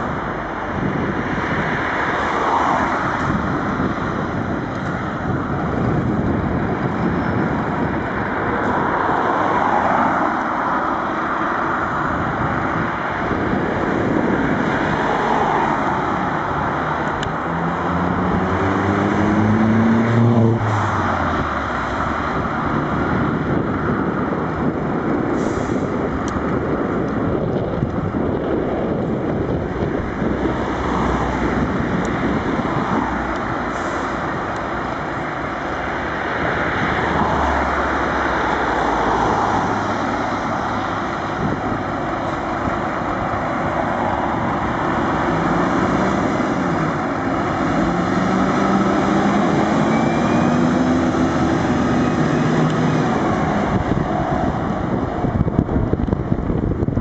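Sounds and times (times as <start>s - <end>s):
road and traffic noise: 0.0s - 57.0s
diesel engine accelerating: 9.6s - 57.0s.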